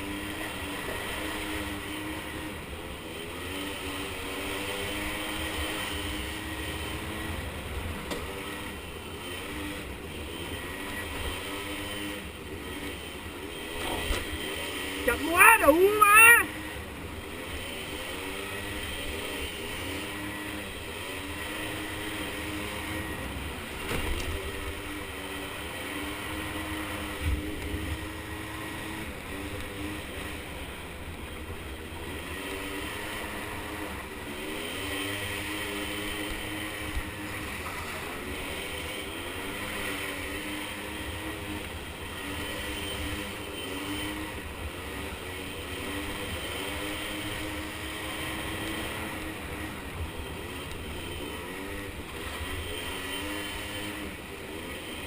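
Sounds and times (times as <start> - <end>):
small atv engines revving: 0.0 - 55.0.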